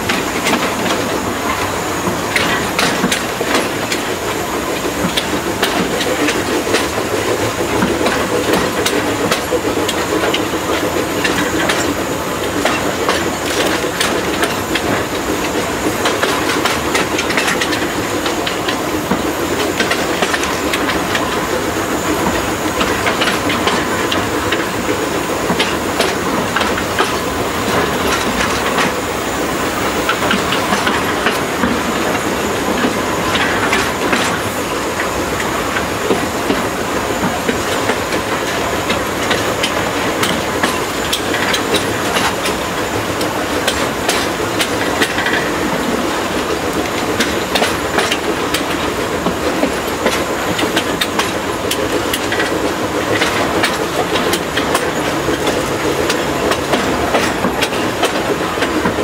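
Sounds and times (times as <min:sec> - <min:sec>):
steam hissing: 0:00.0 - 0:59.0
steam train rumbling: 0:00.0 - 0:59.0
wheels clattering over rail joints: 0:00.0 - 0:59.0.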